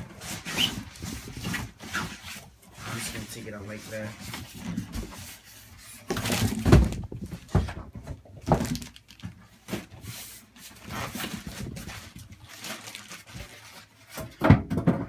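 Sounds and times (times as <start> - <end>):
packaging rustling and scraping: 0.0 - 14.4.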